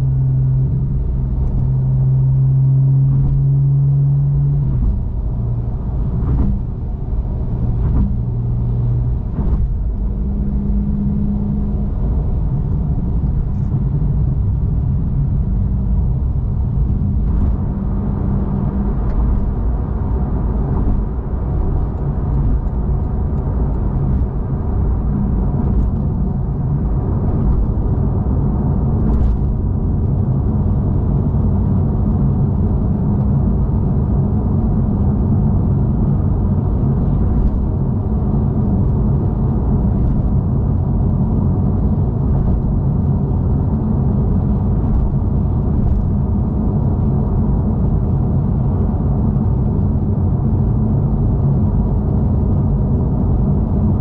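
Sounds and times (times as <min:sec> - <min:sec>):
car engine and exhaust drone: 0:00.0 - 0:54.0
road noise: 0:00.0 - 0:54.0.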